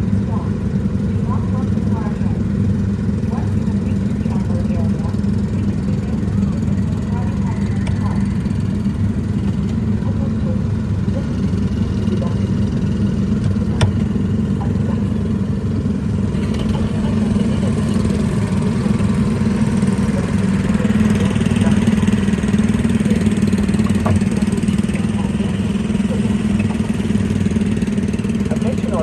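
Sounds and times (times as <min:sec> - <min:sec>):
ride car motor hum: 0:00.0 - 0:29.0.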